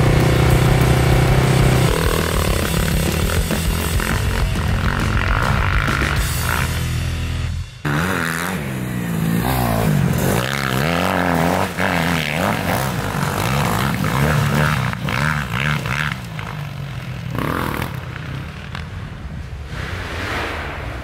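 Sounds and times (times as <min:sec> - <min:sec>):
motocross bikes revving: 0:00.0 - 0:07.0, 0:07.8 - 0:19.0.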